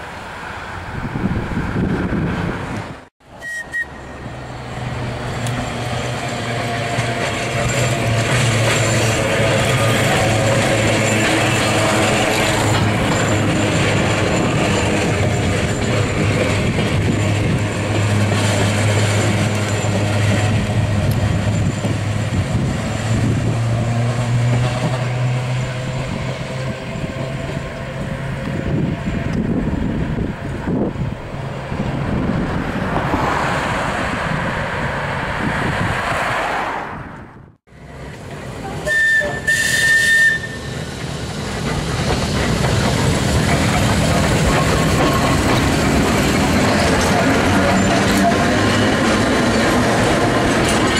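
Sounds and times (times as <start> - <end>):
tram motor hum: 0.1 - 35.6, 37.7 - 50.9.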